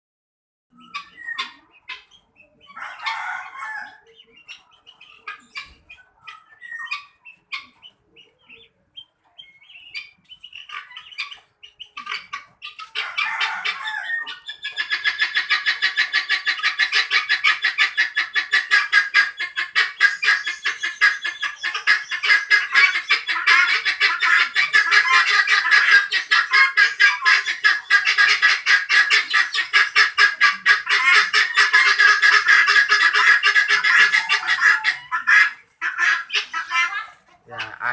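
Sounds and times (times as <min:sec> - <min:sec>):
chickens clucking: 0:00.7 - 0:37.9
chickens squawking: 0:00.7 - 0:37.9
chorus of chicken calls: 0:00.7 - 0:37.9.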